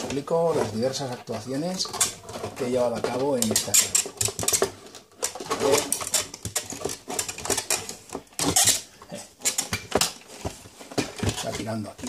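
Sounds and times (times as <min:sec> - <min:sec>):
metal scraping and rattling on wood: 0:00.0 - 0:12.0.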